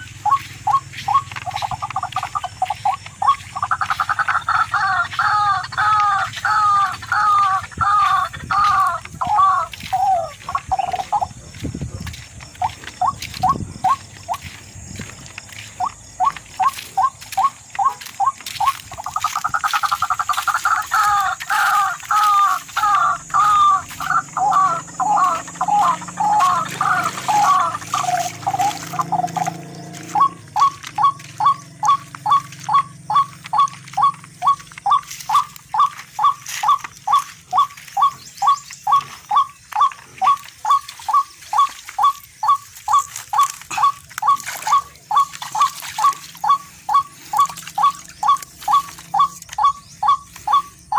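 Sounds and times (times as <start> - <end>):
rail bird calling: 0.0 - 50.9.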